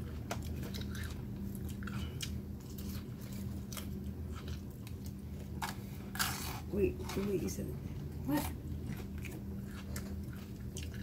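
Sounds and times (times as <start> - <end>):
chewing and crunching salad: 0.0 - 11.0
steady low hum: 0.0 - 11.0.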